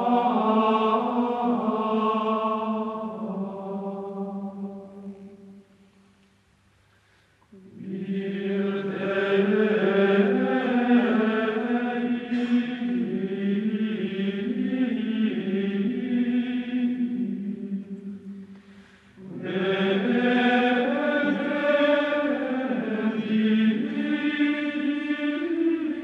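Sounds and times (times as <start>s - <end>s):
choir chanting: 0.0s - 5.7s, 7.5s - 18.4s, 19.2s - 26.0s.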